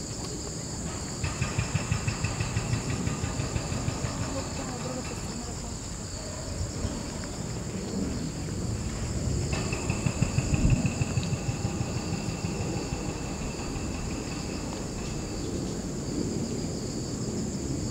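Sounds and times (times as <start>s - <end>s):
insects chirring: 0.0s - 17.9s.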